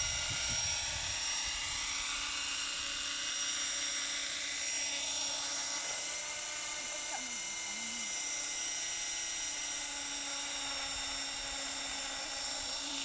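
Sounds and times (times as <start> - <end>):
model helicopter rotor whine: 0.0 - 13.0.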